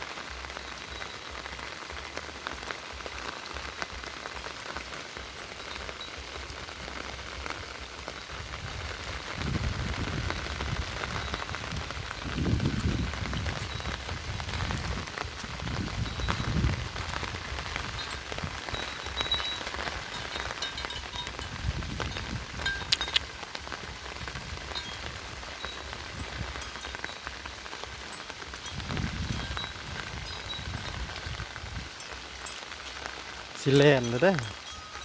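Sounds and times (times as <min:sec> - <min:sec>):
steady rain pattering: 0:00.0 - 0:35.0.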